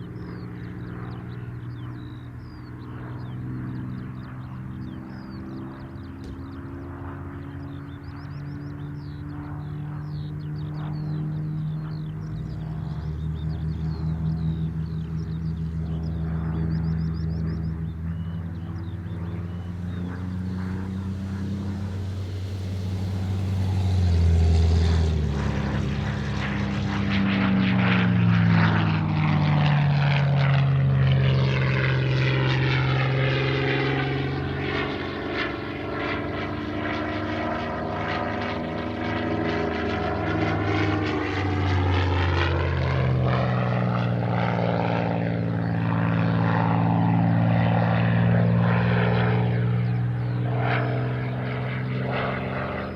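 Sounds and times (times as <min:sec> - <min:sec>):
propeller plane engine passing: 0:00.0 - 0:52.9.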